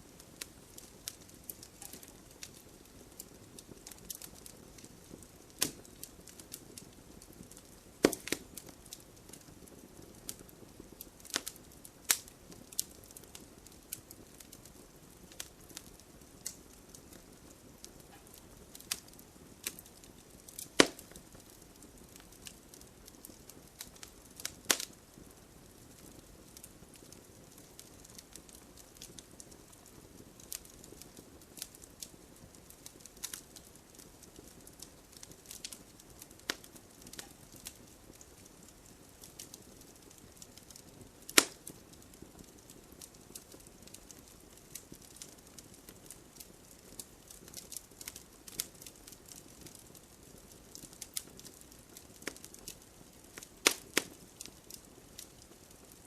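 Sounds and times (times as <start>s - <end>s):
campfire logs crackling and popping: 0.0s - 56.0s
low hiss of flame: 0.0s - 56.0s.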